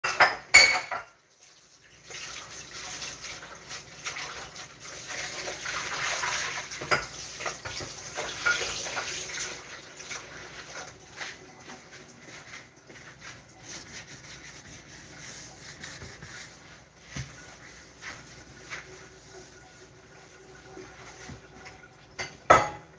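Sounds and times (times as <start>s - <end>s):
water running and splashing: 1.2s - 22.5s.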